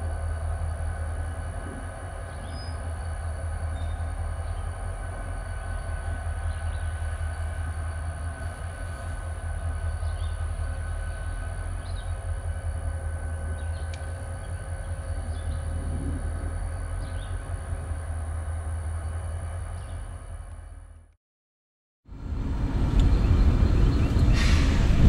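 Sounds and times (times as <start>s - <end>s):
locomotive engine rumble: 0.0s - 21.1s, 22.1s - 25.0s.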